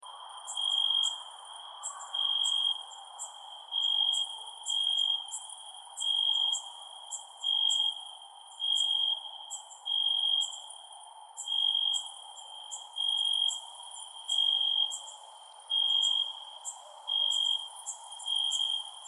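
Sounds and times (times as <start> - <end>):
crickets trilling: 0.0 - 19.0
higher cricket chirps: 0.0 - 19.0.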